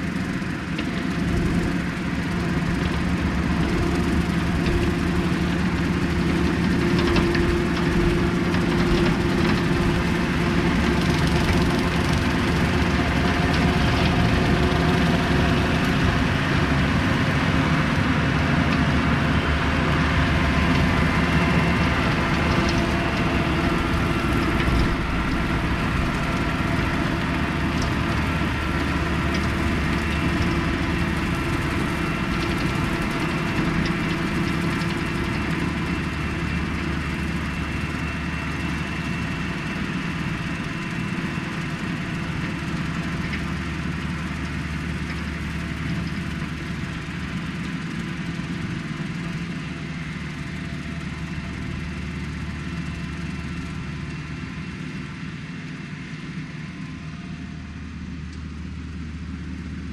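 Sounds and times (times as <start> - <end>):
mower cutting grass: 0.0 - 56.4
tractor diesel engine running: 0.0 - 59.9.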